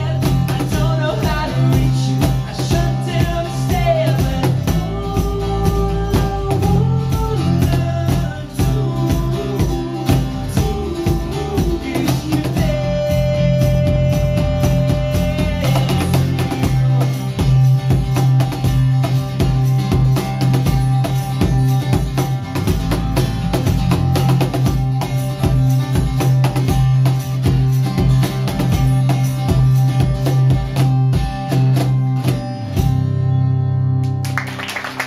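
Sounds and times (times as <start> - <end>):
cajon beat: 0.0 - 33.3, 33.9 - 35.0
bass guitar low note: 0.0 - 34.4
acoustic guitar strumming: 0.0 - 35.0.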